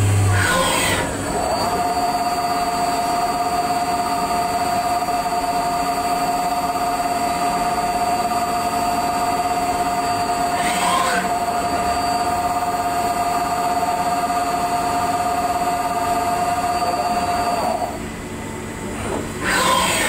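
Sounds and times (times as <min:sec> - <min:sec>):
lathe drives whining: 0:00.0 - 0:20.0.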